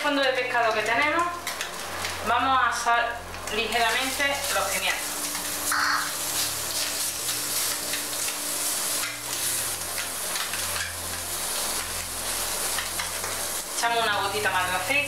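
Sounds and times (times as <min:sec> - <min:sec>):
peppers sizzling in hot oil: 0:00.0 - 0:15.0.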